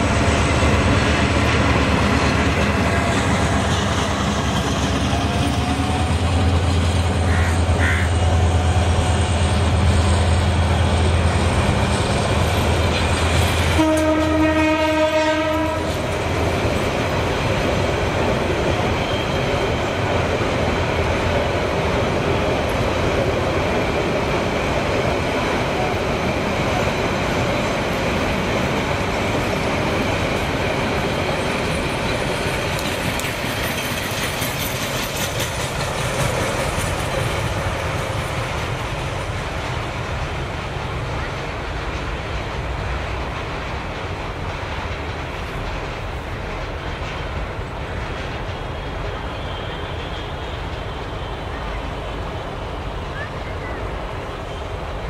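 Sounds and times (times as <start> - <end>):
train wheels clattering on track: 0.0 - 55.0.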